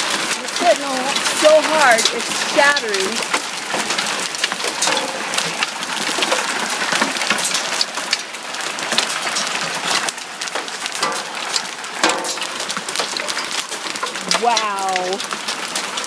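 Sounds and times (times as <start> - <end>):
heavy rain hissing: 0.0 - 15.9
hailstones pelting: 0.0 - 16.0.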